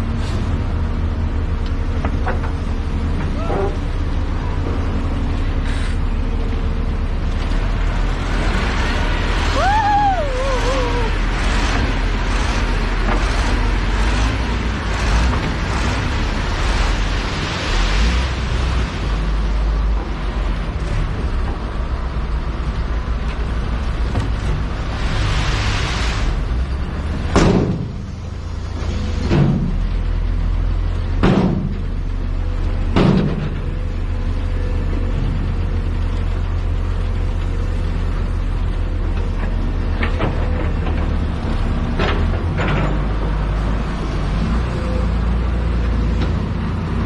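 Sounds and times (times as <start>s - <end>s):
diesel engine rumbling: 0.0s - 47.0s.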